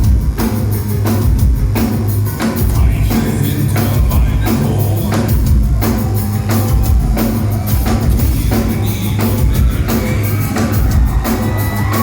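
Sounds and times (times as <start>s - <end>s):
heavy drum beat: 0.0s - 12.0s
live metal band playing: 0.0s - 12.0s.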